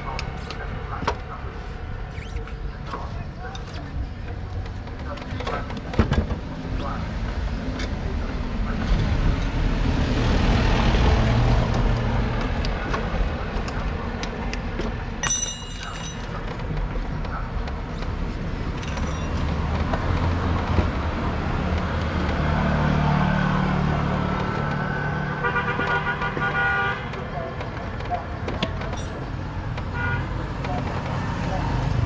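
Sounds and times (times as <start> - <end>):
passing vehicles humming: 0.0 - 32.0.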